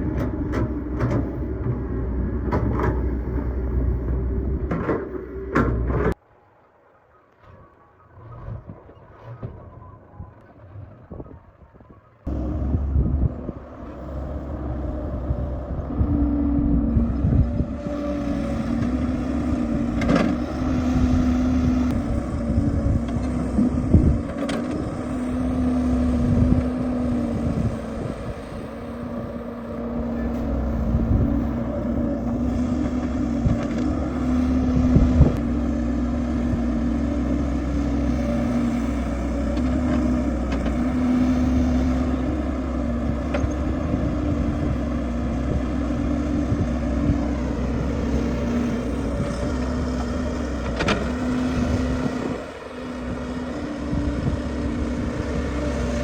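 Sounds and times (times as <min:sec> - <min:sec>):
excavator diesel engine: 0:00.0 - 0:06.2, 0:12.2 - 0:56.0.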